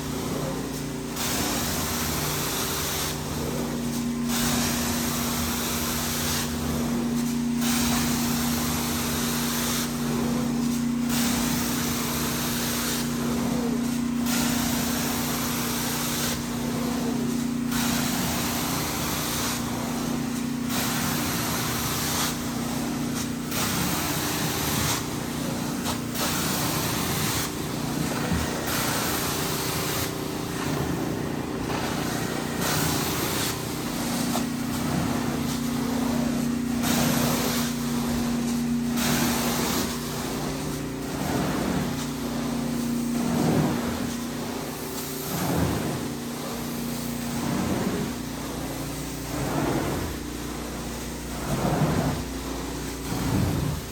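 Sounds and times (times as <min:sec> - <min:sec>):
extraction wand spraying and sucking: 0:00.0 - 0:53.9
extraction machine hum: 0:03.1 - 0:53.9.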